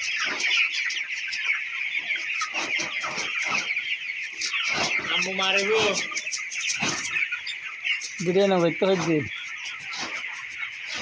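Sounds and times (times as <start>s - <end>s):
chickens chattering and clucking: 0.0s - 11.0s.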